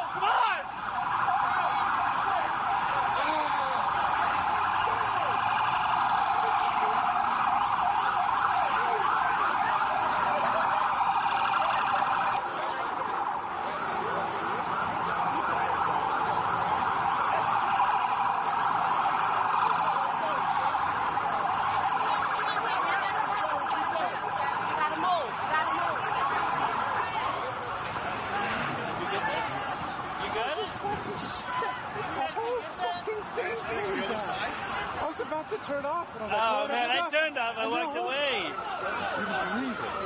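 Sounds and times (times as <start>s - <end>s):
many sirens wailing: 0.0s - 40.0s.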